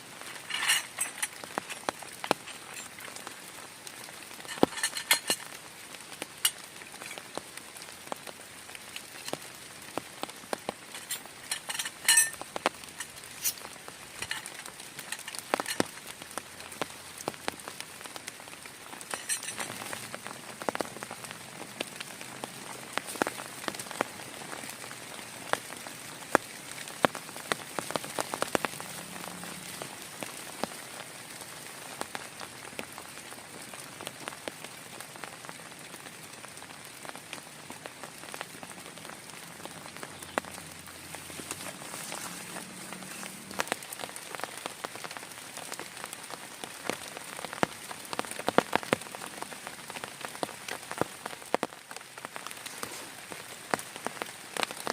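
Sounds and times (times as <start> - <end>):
raindrops tapping sharply: 0.0 - 54.9
steady rain falling: 0.0 - 54.9.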